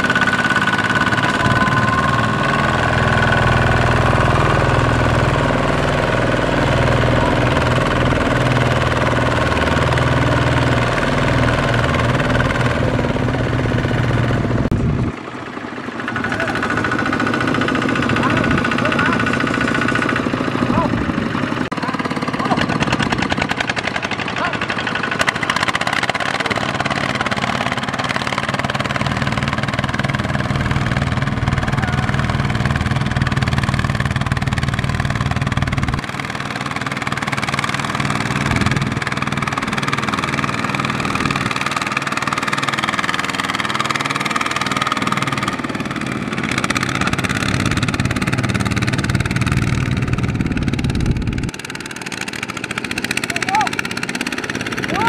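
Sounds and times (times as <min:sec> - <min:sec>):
diesel engine labouring: 0:00.0 - 0:55.0.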